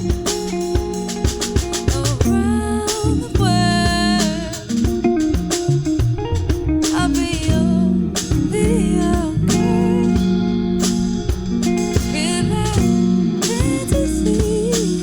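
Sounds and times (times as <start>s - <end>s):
bass guitar: 0.0s - 15.0s
drum kit: 0.0s - 15.0s
guitar lead with bent notes: 0.0s - 15.0s.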